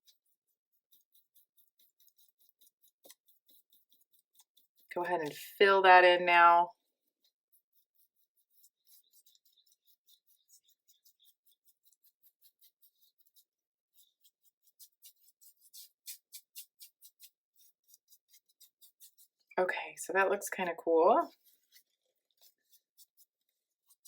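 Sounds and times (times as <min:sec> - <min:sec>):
paintbrush strokes on canvas: 0:00.0 - 0:24.0.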